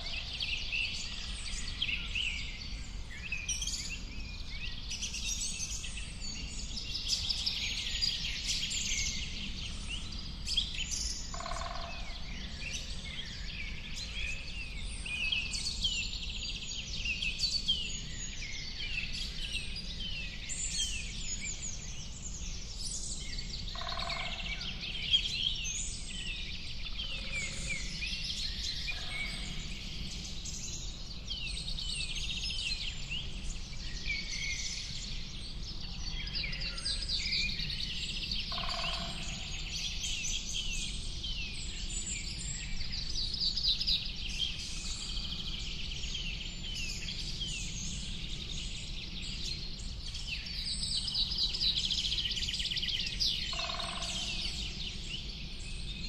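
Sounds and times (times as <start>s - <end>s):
low background noise: 0.0s - 56.0s
small birds chirping and twittering: 0.0s - 56.0s.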